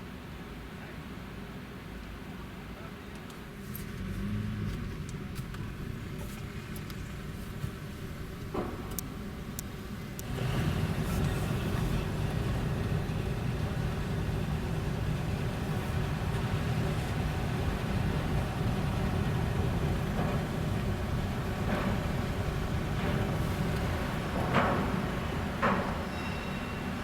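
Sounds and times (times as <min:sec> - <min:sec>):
car engine and tyre rumble: 0:02.8 - 0:26.1.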